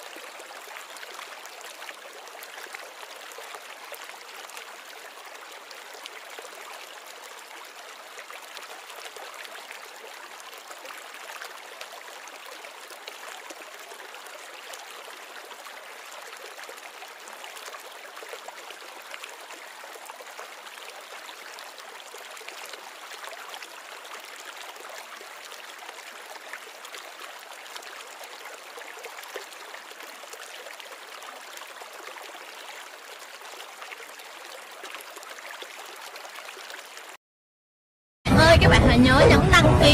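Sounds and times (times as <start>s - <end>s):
water trickling in aquarium: 0.0s - 37.2s.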